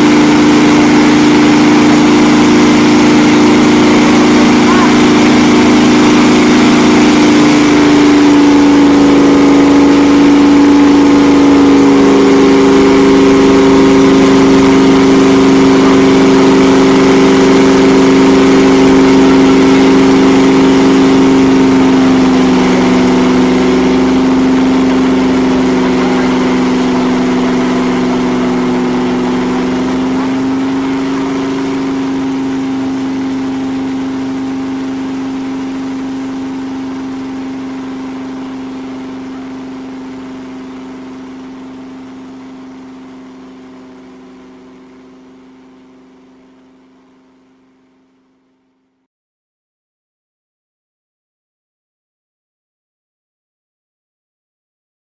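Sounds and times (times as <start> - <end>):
car engine revving in burnout: 0.0 - 47.5.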